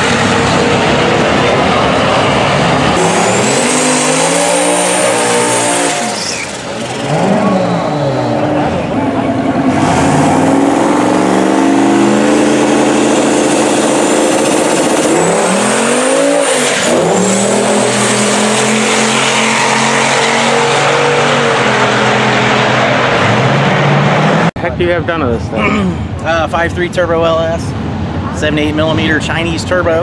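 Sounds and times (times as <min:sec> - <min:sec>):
car engine at full throttle: 0:00.0 - 0:24.8.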